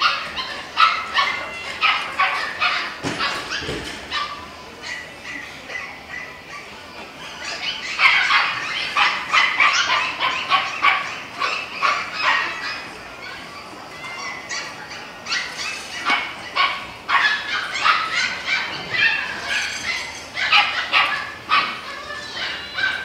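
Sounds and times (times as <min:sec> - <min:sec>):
dogs barking and yapping: 0:00.0 - 0:23.0
dogs whimpering: 0:00.0 - 0:23.0.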